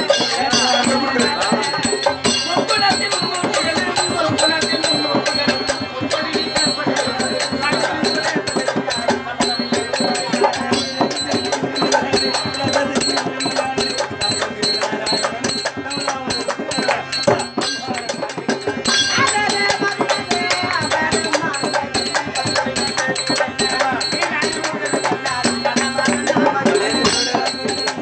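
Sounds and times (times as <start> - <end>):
drumming: 0.0 - 28.0
person singing: 0.0 - 28.0.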